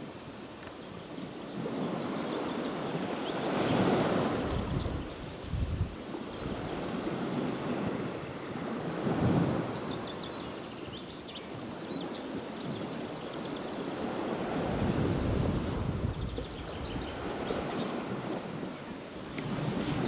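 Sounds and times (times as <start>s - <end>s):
surf washing: 0.0s - 20.0s
wind gusting over microphone: 1.0s - 20.0s.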